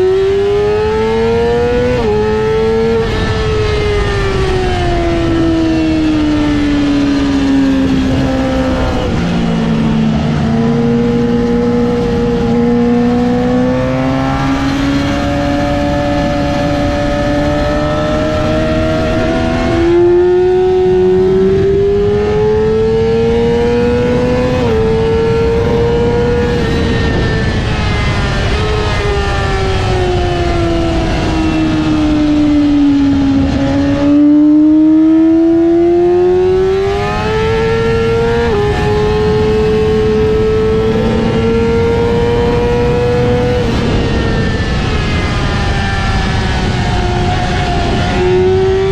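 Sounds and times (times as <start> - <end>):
motorcycle engine running hard: 0.0 - 48.9.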